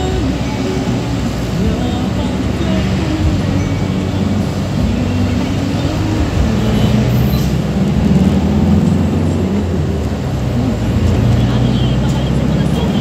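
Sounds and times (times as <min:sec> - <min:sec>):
road noise inside vehicle: 0:00.0 - 0:13.0
van engine: 0:00.0 - 0:13.0.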